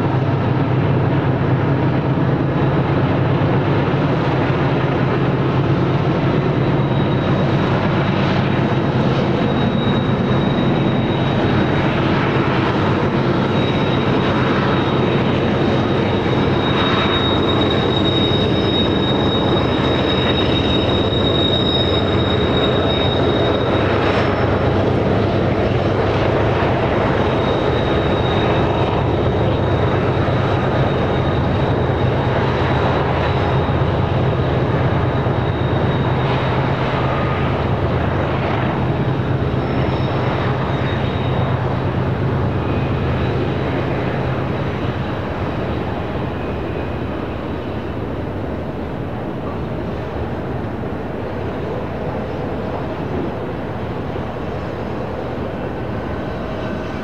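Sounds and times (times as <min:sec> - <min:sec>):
train cars rumbling: 0:00.0 - 0:57.0
train wheel squeal: 0:00.0 - 0:57.0.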